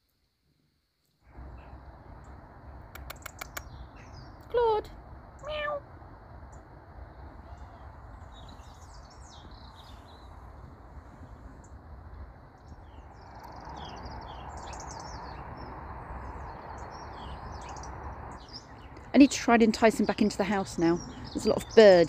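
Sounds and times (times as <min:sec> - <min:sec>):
small birds chirping: 0:01.3 - 0:05.8, 0:06.4 - 0:22.0
low background rumble: 0:01.3 - 0:22.0.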